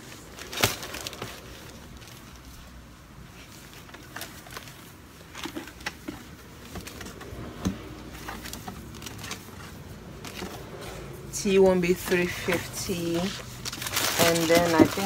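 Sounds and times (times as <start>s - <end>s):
packaging rustling: 0.0s - 11.1s, 11.9s - 15.0s.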